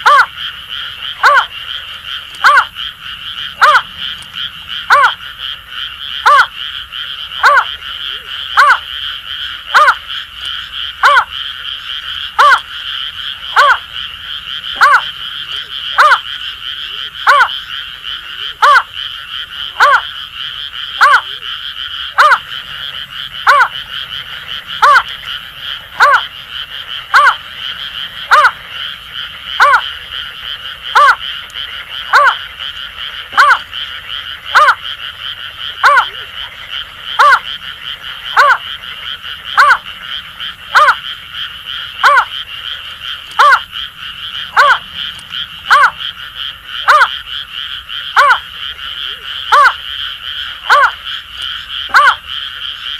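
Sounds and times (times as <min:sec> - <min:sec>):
chorus of frogs: 0:00.0 - 0:52.9.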